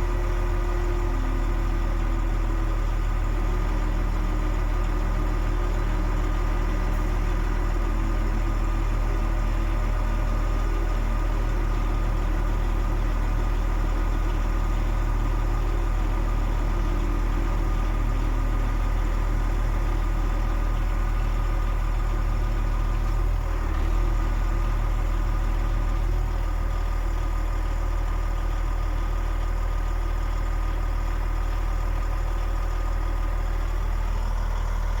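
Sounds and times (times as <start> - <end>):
diesel truck idling: 0.0 - 35.0.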